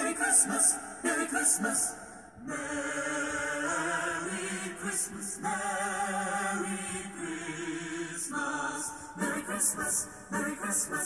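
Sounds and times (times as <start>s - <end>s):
christmas song with harmonised voices: 0.0s - 11.0s.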